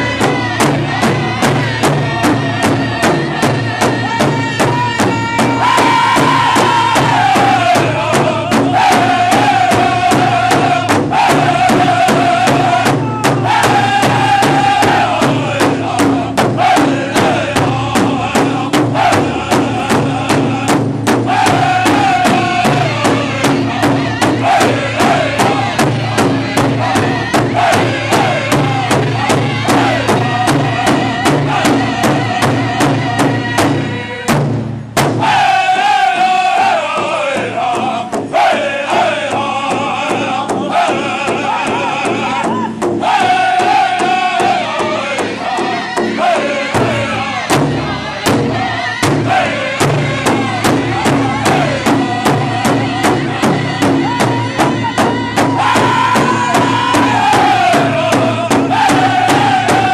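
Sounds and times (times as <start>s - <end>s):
high lead voice singing: 0.0s - 34.4s, 35.2s - 59.9s
large drum beating: 0.0s - 59.9s
men chorus chanting: 0.0s - 59.9s.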